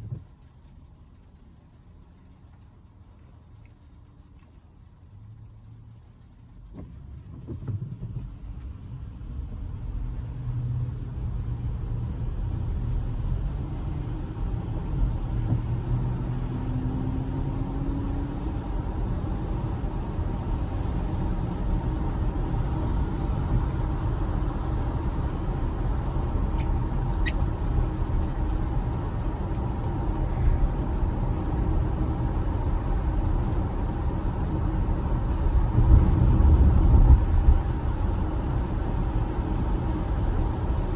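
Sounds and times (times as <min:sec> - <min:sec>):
road and tyre noise in car: 0:00.0 - 0:40.9.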